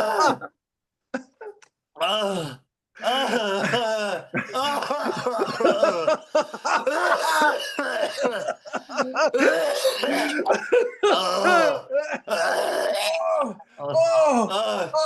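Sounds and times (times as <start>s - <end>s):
person making wordless vocal cries: 0.0s - 0.5s, 1.2s - 15.0s.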